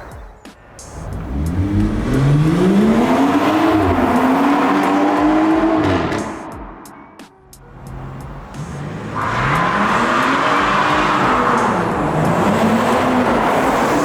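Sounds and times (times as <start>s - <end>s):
car engine accelerating: 0.8s - 14.0s.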